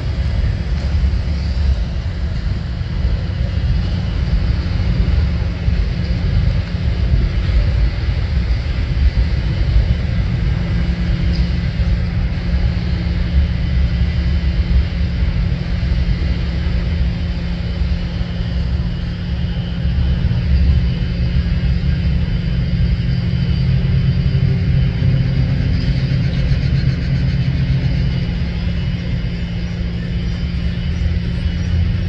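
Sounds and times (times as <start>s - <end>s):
freight train rumbling: 0.0s - 32.0s.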